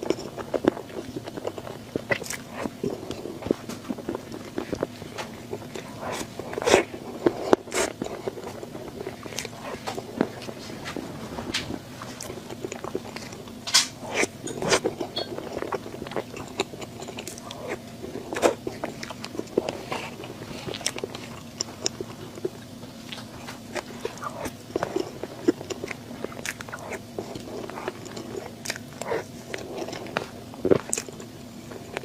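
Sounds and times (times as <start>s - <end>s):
faint steady hum: 0.0s - 32.0s
person chewing food: 0.0s - 32.0s.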